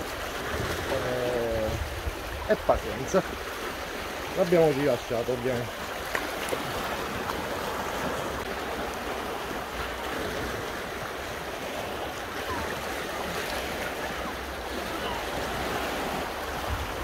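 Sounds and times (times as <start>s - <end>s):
sea waves on rocky shore: 0.0s - 17.0s.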